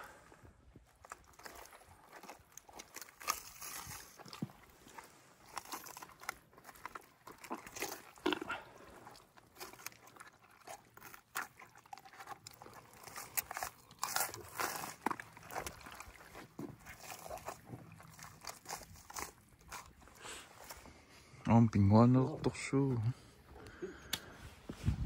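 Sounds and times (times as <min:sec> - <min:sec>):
wet tearing and crunching of flesh: 0:00.8 - 0:20.9.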